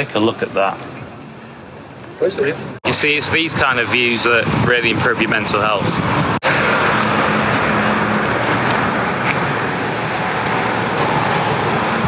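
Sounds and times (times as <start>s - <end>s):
city traffic passing cars: 0.0s - 12.0s.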